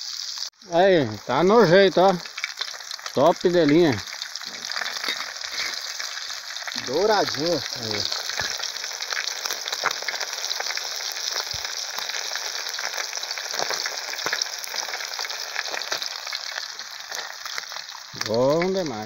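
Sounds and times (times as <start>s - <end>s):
fish deep-frying in oil: 0.0s - 19.0s.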